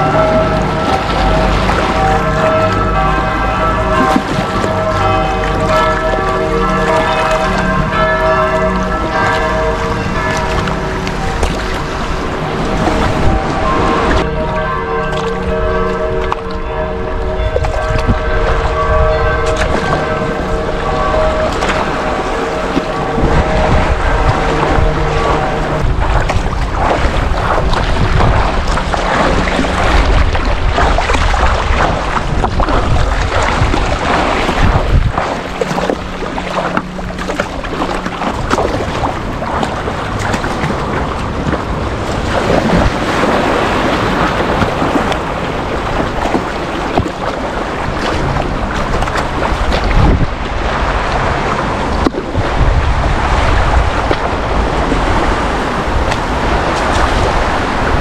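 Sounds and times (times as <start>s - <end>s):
river water rushing and splashing: 0.0s - 58.0s
wind buffeting microphone: 0.0s - 58.0s.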